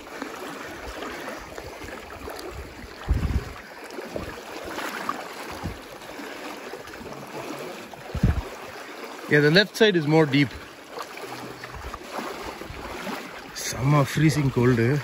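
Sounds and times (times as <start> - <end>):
river water splashing around legs: 0.0 - 15.0.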